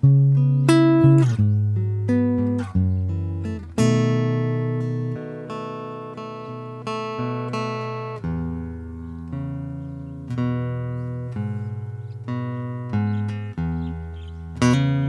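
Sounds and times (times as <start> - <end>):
acoustic guitar played softly: 0.0 - 15.0.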